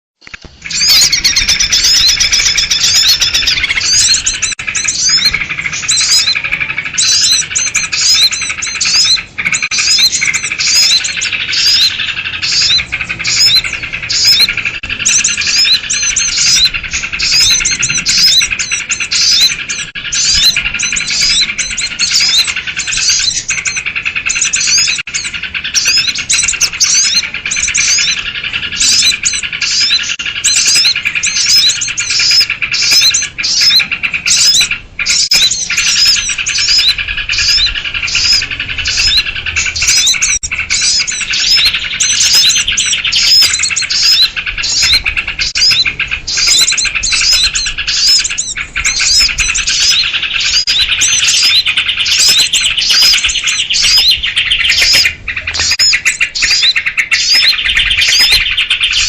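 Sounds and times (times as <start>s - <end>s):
birds chattering with rapid chirps: 0.2s - 59.0s.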